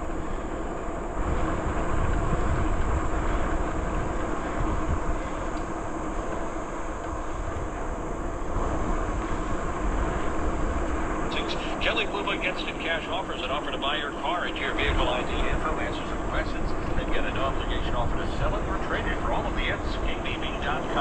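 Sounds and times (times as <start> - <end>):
bicycle rolling on trail: 0.0 - 21.0
wind buffeting microphone: 0.0 - 21.0.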